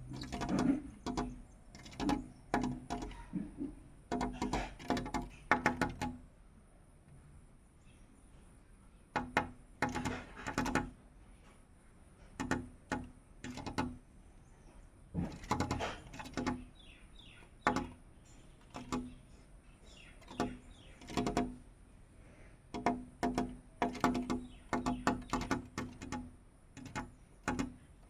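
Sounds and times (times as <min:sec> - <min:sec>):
bird tapping on glass: 0:00.0 - 0:06.4, 0:09.1 - 0:11.0, 0:12.2 - 0:28.0.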